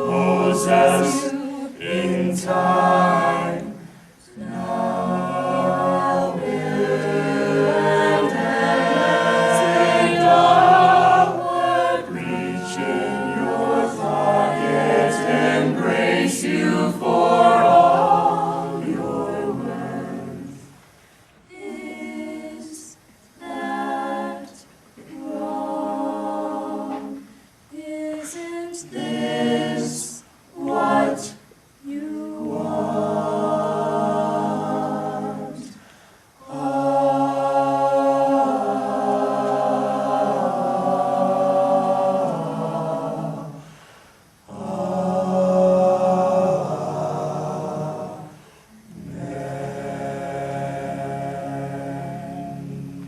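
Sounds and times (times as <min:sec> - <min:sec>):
choir singing a cappella: 0:00.0 - 0:53.0.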